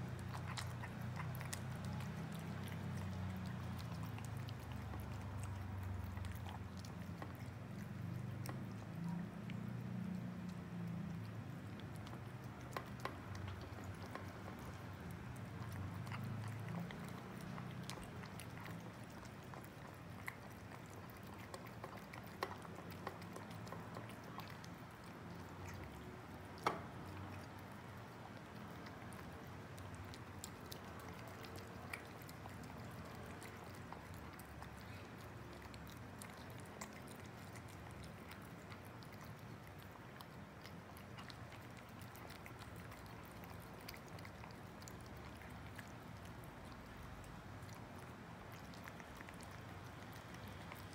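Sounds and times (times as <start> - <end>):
cats chewing and lapping food: 0.0 - 50.9.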